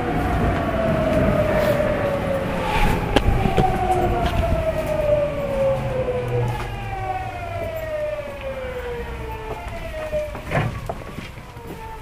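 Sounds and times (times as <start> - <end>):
wheels rumbling: 0.0 - 12.0.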